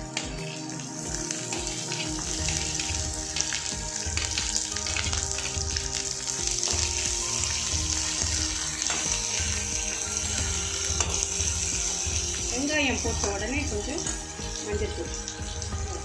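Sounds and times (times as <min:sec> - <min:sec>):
shallots sizzling in hot oil: 0:00.0 - 0:16.0.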